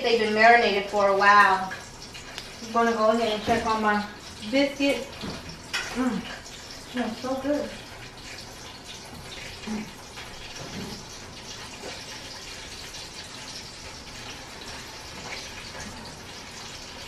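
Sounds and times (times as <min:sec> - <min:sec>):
chicken frying in grease: 0:00.0 - 0:17.0.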